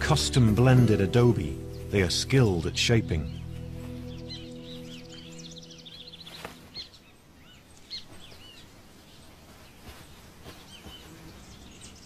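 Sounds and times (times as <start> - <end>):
faint outdoor hiss: 0.0 - 12.0
small birds chirping: 0.1 - 12.0.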